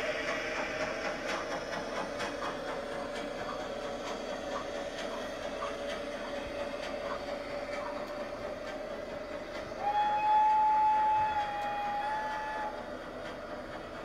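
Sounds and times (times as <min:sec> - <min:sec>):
model train motor hum: 0:00.0 - 0:14.0
wheels clicking on rails: 0:00.0 - 0:14.0.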